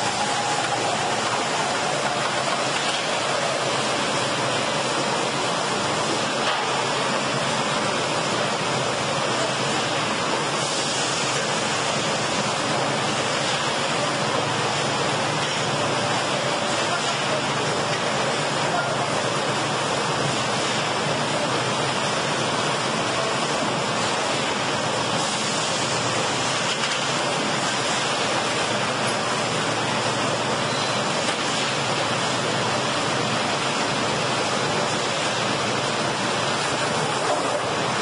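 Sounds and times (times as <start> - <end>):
log-processing machinery running: 0.0 - 38.0.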